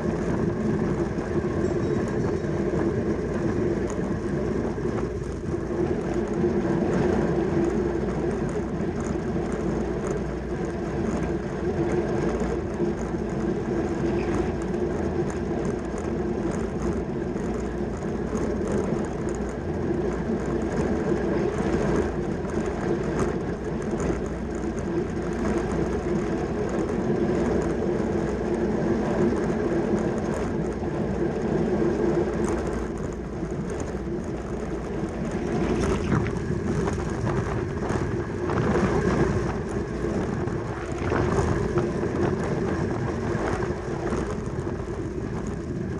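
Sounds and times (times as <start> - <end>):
bike tyres and chain whirring: 0.0 - 45.9
wind rushing over microphone: 0.0 - 45.9.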